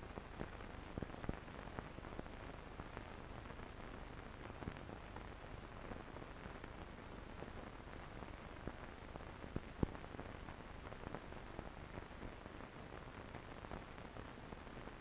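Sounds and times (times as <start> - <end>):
crackles and pops: 0.0 - 15.0
faint steady hiss: 0.0 - 15.0.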